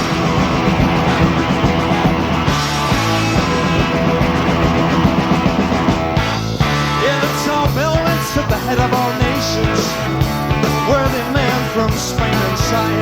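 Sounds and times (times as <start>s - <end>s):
electric guitar bending notes: 0.0s - 12.3s
live rock band playing: 0.0s - 13.0s.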